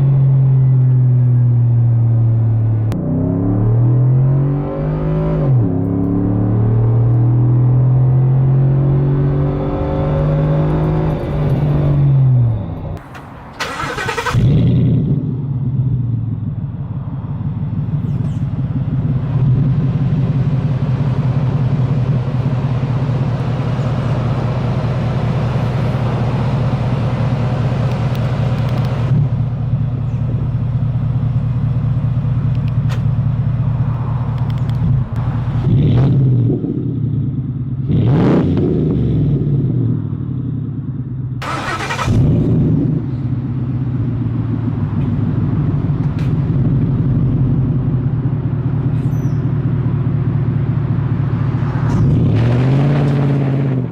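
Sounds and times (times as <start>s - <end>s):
engine exhaust rumbling: 5.6s - 53.9s.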